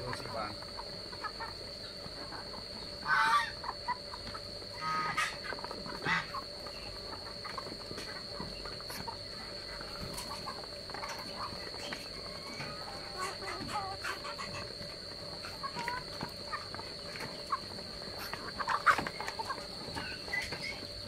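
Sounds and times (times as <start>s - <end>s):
poultry calling loudly: 0.1s - 21.0s.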